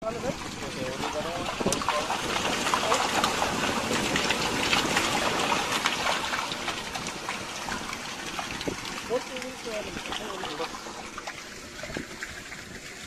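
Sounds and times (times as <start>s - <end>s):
water gushing down a well casing: 0.0s - 13.0s.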